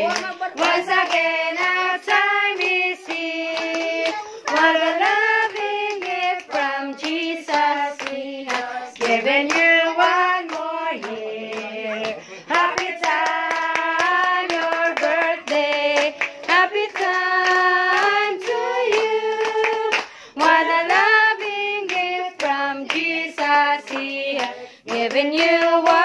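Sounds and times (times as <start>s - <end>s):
hand claps: 0.0s - 26.0s
person singing a celebration song: 0.0s - 26.0s.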